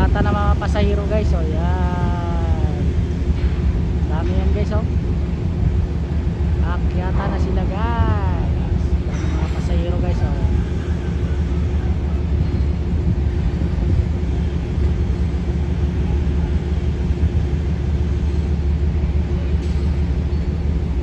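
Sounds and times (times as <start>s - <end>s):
faint steady hum: 0.0s - 21.0s
low engine rumble: 0.0s - 21.0s.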